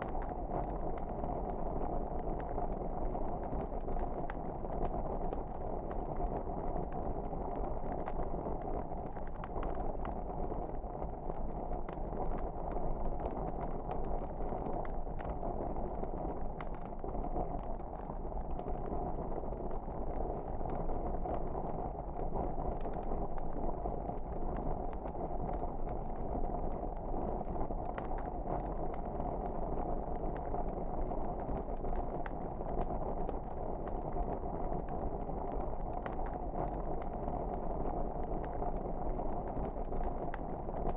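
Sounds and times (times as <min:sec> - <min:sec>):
log fire crackling: 0:00.0 - 0:40.9.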